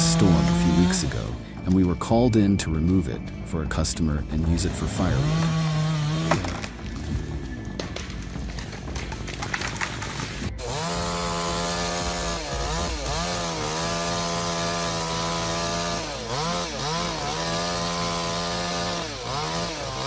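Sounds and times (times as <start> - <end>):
chainsaw cutting wood: 0.0 - 1.6, 4.4 - 20.0.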